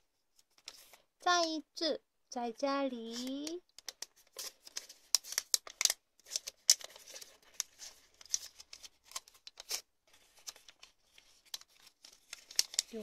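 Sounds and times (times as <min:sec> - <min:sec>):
paper rustling and crinkling: 0:00.4 - 0:01.0, 0:03.0 - 0:13.0.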